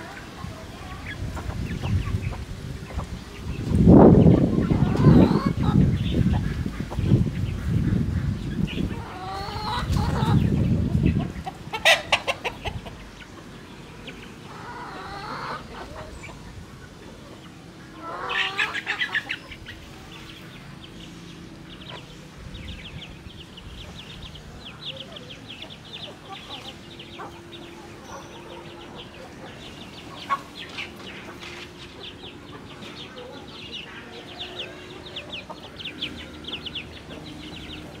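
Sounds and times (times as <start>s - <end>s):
hens and rooster clucking: 0.0s - 38.0s.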